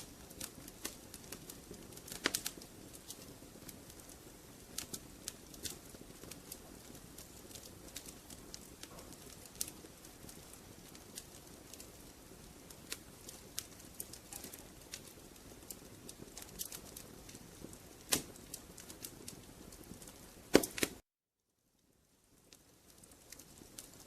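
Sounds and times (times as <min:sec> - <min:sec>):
fire pops and snaps: 0:00.0 - 0:21.0, 0:21.8 - 0:24.0
wood fire crackling: 0:00.0 - 0:21.0, 0:21.6 - 0:24.0.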